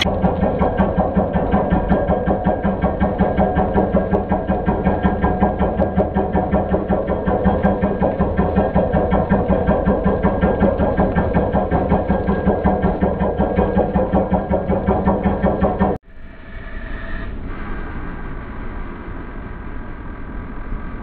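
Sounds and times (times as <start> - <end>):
heavy machinery pulsing: 0.0 - 21.0
quieter machine hum: 0.0 - 21.0.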